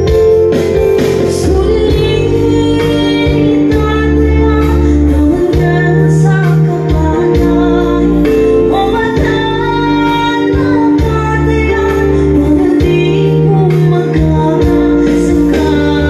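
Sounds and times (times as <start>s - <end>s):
keyboard accompaniment: 0.0s - 16.0s
woman singing into a microphone: 0.0s - 16.0s.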